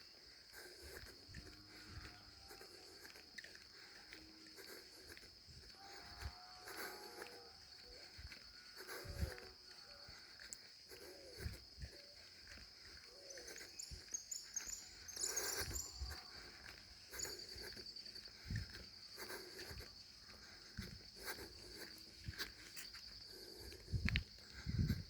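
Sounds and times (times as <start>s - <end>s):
insects chirring: 0.0s - 25.0s
footfalls and rustles on trail: 0.8s - 25.0s.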